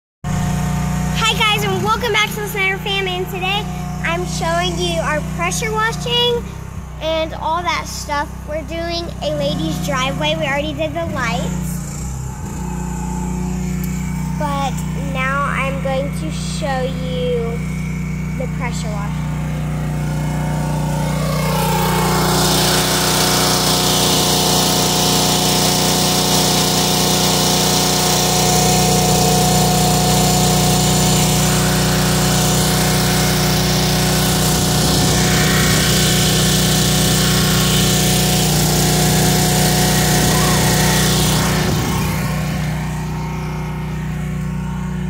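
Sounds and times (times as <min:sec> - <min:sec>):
gas engine running: 0:00.2 - 0:45.0.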